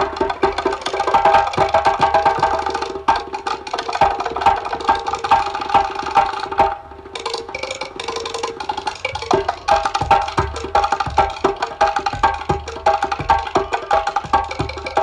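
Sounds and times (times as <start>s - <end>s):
fast drum percussion music: 0.0s - 15.0s.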